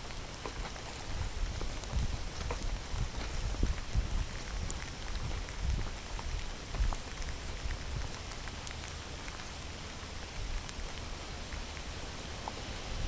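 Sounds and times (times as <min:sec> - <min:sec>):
heavy rain falling: 0:00.0 - 0:13.0
raindrop ticks: 0:00.0 - 0:13.0.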